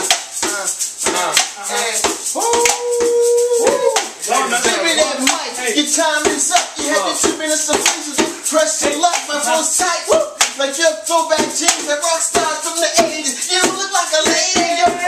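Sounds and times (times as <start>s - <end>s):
hand strikes beat: 0.0s - 15.0s
man singing: 2.2s - 15.0s.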